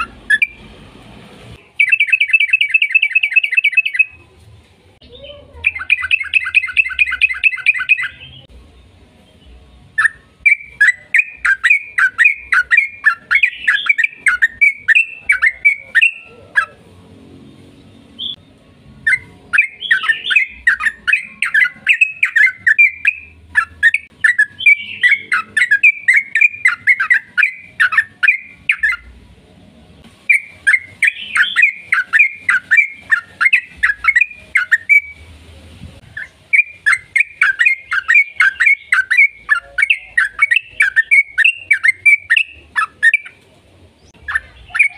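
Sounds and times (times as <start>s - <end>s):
bulbul singing chattering song: 0.0s - 0.7s, 1.5s - 4.2s, 5.0s - 16.8s, 17.5s - 29.2s, 30.2s - 35.4s, 36.0s - 44.9s.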